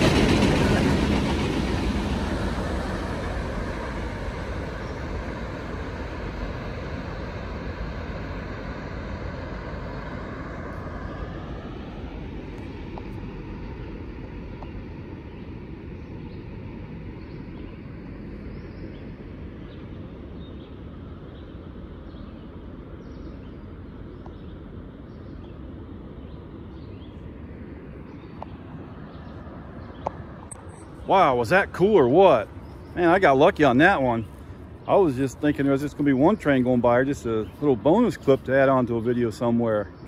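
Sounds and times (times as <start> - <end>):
high whine: 0.0 - 39.7
freight train rumbling: 0.0 - 40.0.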